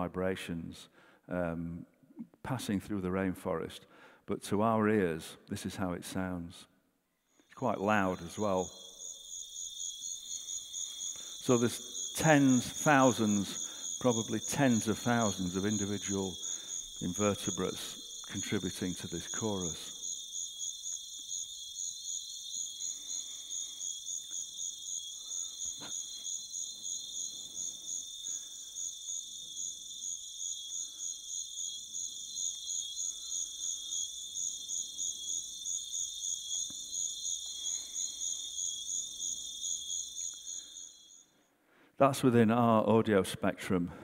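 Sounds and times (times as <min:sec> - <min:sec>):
insect chorus over loudspeakers: 0:07.3 - 0:44.0.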